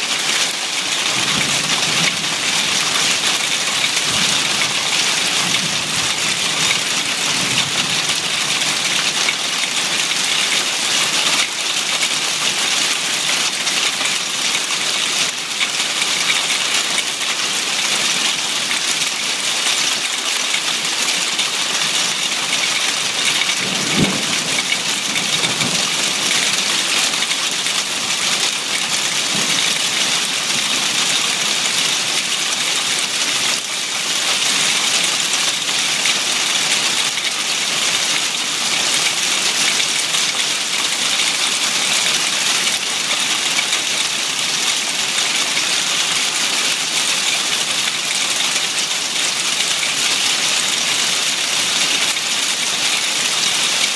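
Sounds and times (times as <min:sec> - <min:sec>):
hail and heavy rain: 0:00.0 - 0:53.9.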